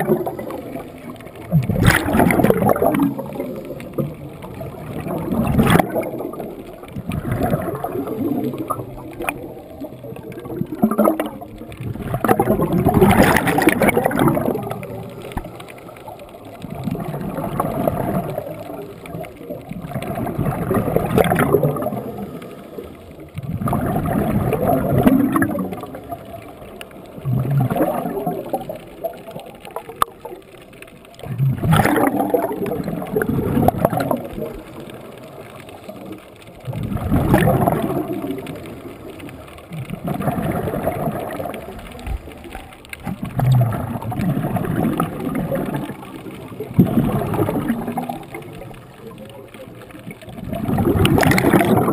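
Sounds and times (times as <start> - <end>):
gurgling exhaled bubbles: 0.0 - 51.9.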